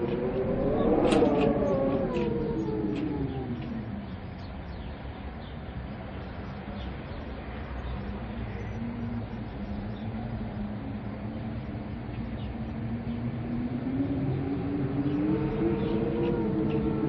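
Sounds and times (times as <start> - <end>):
howling wind: 0.0 - 17.0.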